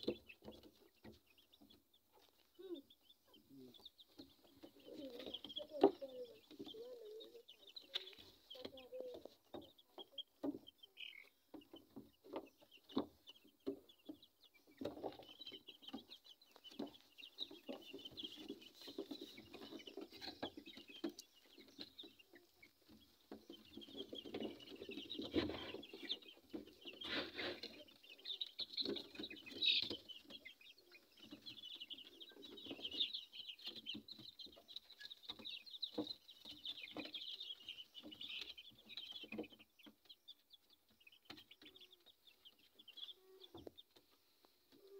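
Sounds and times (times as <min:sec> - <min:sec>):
chickens clucking and peeping: 0:00.0 - 0:44.9.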